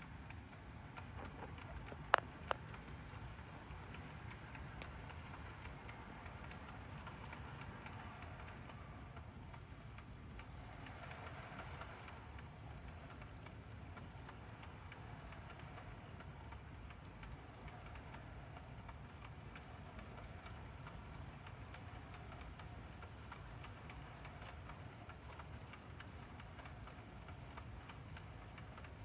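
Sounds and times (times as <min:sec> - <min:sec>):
model train wheels clicking: 0:00.0 - 0:29.0.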